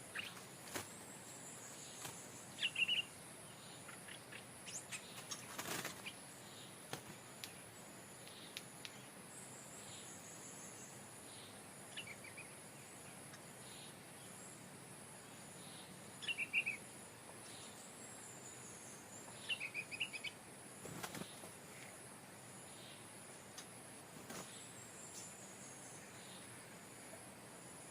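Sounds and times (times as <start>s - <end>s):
bird singing: 0.0s - 23.7s, 24.3s - 27.9s
insects droning: 0.0s - 27.9s.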